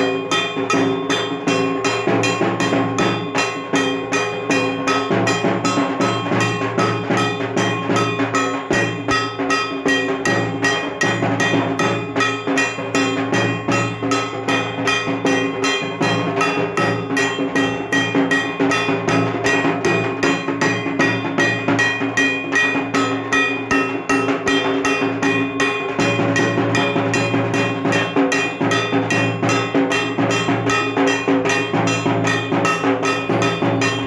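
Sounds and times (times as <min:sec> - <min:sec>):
barrel drum beaten fast: 0:00.0 - 0:34.0
steady ringing tones: 0:00.0 - 0:34.0.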